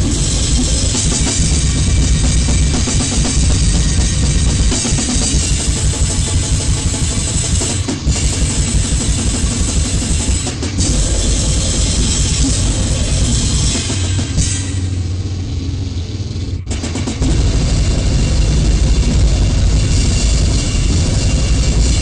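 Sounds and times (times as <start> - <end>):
dense distorted noise: 0.0 - 22.0
fast pounding drums and cymbals: 0.0 - 22.0.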